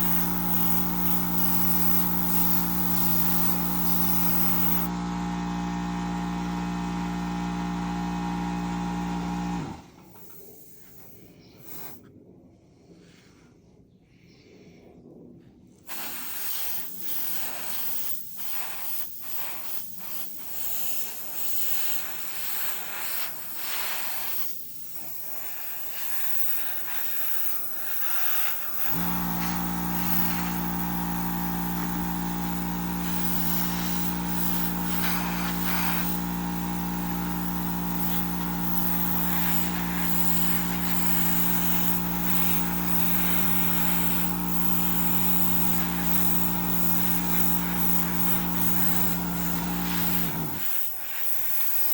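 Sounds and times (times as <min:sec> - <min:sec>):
airbrush spraying in hissing spurts: 0:00.0 - 0:04.9, 0:10.1 - 0:12.0, 0:15.9 - 0:51.9
air compressor motor humming: 0:00.0 - 0:12.0, 0:15.9 - 0:51.9.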